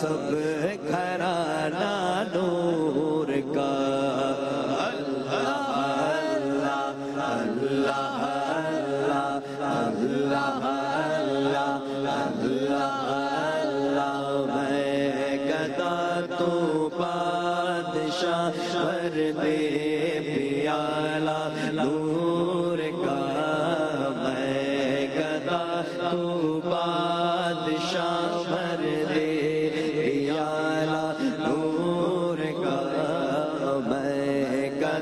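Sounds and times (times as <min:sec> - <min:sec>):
man singing ornamented melody: 0:00.0 - 0:35.0.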